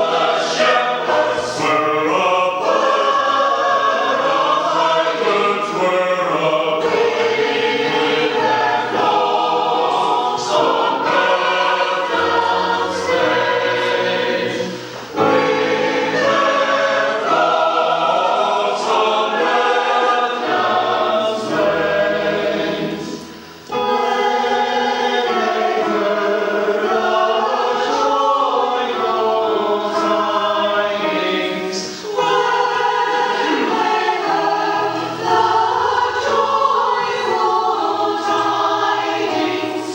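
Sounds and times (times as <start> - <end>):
choir singing a carol in parts: 0.0 - 39.9.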